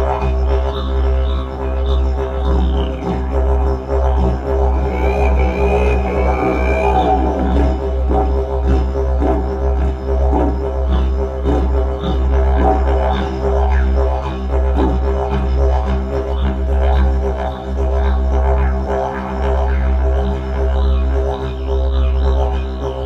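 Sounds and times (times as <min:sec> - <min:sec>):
didgeridoo drone: 0:00.0 - 0:23.0.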